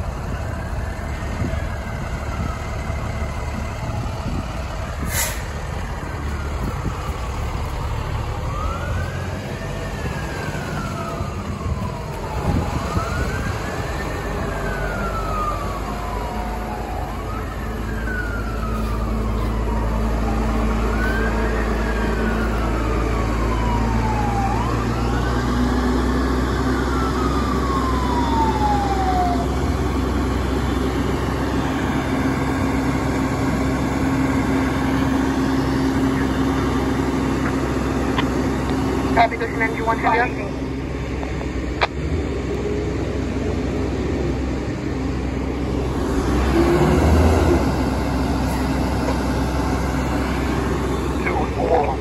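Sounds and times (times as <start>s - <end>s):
diesel engine rumble: 0.0s - 52.0s
fire truck siren wailing: 0.0s - 52.0s.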